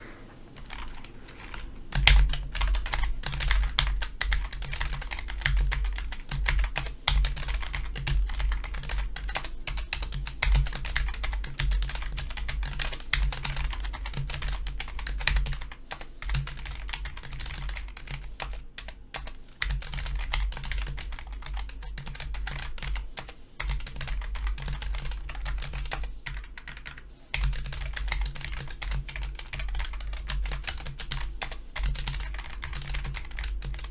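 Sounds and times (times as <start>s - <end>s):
fast typing on mechanical keyboard: 0.6s - 33.9s.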